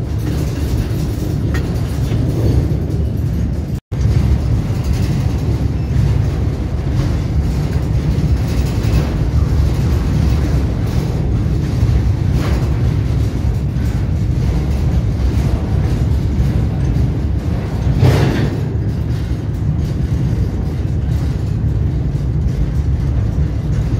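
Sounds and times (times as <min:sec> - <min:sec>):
train rumble: 0:00.0 - 0:23.9
wind buffeting microphone: 0:00.0 - 0:23.9.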